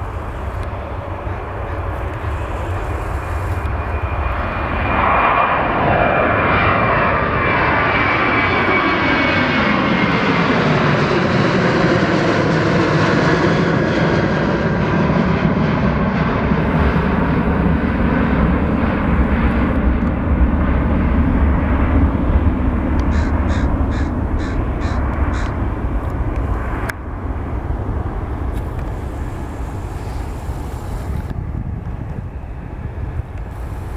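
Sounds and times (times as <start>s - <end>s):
jet airliner taking off: 0.0s - 33.9s.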